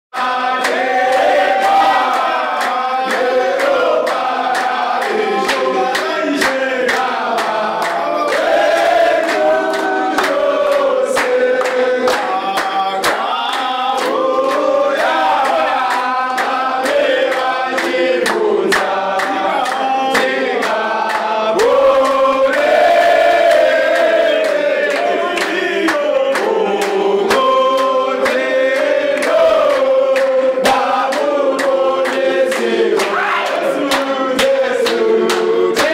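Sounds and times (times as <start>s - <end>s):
hand claps: 0.1s - 35.9s
men singing together: 0.1s - 35.9s.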